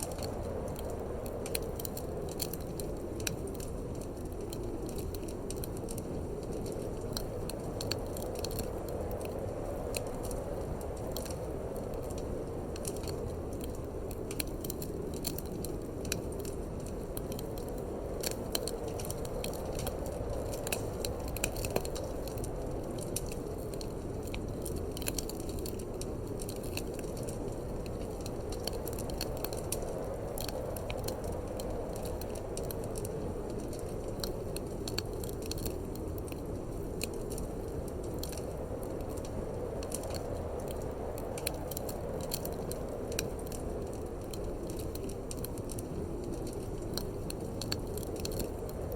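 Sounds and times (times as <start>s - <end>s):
low rush of wind: 0.0s - 48.9s
wood fire crackling and popping: 0.0s - 48.9s.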